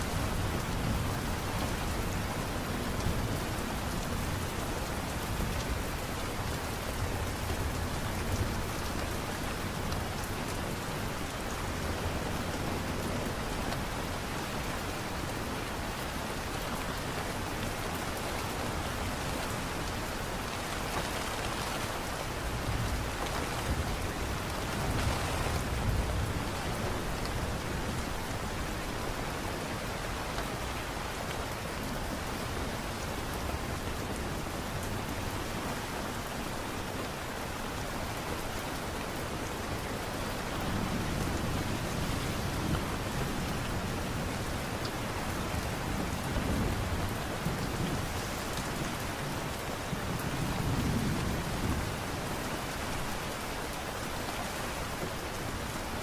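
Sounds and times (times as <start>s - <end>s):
light rain hiss: 0.0s - 56.0s.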